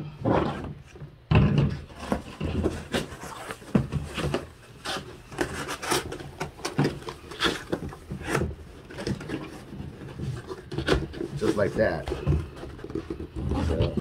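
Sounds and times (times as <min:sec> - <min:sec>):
cardboard rubbing and scraping: 0:01.8 - 0:14.0.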